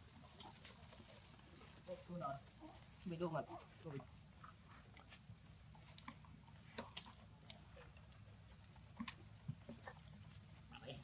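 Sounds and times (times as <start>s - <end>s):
low steady background hum: 0.0s - 11.0s.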